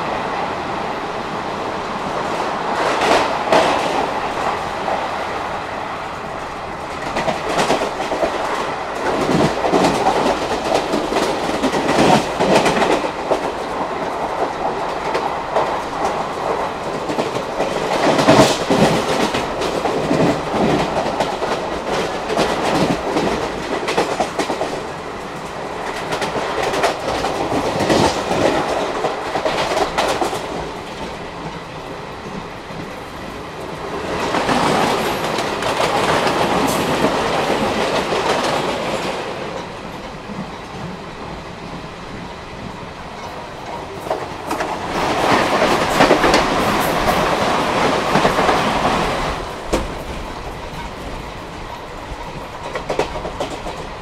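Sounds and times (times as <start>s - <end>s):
train wheels rumbling on rails: 0.0s - 54.0s
clickety-clack of rail joints: 1.5s - 54.0s.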